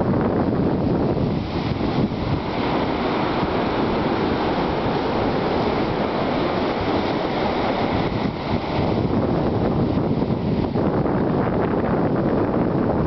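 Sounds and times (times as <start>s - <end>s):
surf breaking over rocks: 0.0s - 12.4s
wind on microphone: 0.0s - 13.0s.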